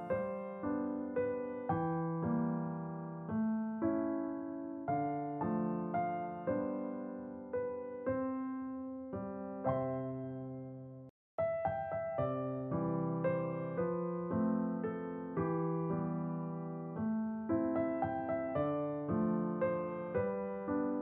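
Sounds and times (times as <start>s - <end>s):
gentle electric piano music: 0.0s - 21.0s.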